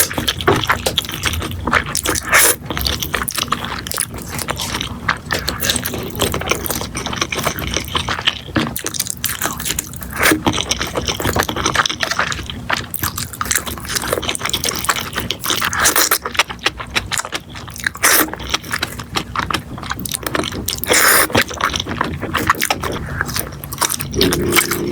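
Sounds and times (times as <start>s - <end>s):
slurping and chewing noodles: 0.0s - 24.9s.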